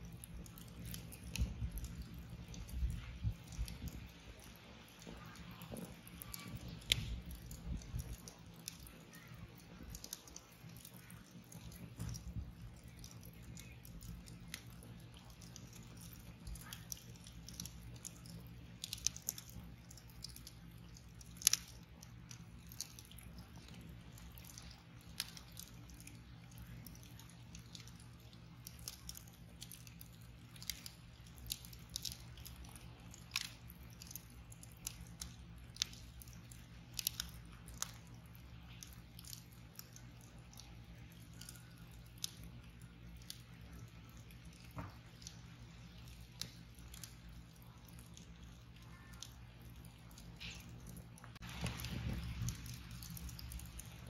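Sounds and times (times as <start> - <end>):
low steady hum: 0.0 - 54.0
wood fire crackling: 0.0 - 54.0.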